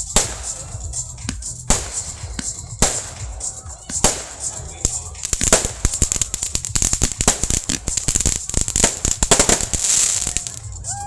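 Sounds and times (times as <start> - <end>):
fireworks cracking and popping: 0.0 - 10.9
crackling hiss of fireworks: 0.0 - 11.0.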